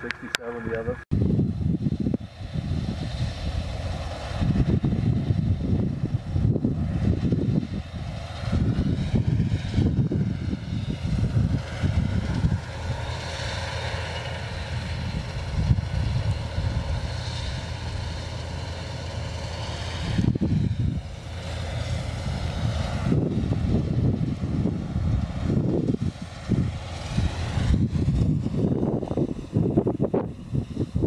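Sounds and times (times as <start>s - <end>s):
combine harvester running: 0.0s - 31.0s
wind gusting on microphone: 0.0s - 31.0s.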